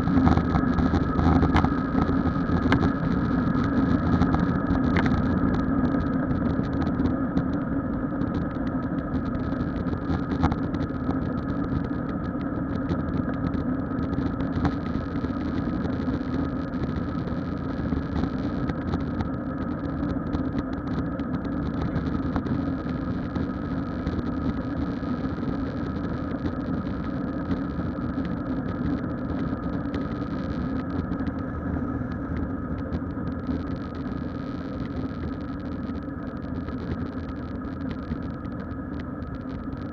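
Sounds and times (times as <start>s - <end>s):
jet engine hum in cabin: 0.0s - 39.9s.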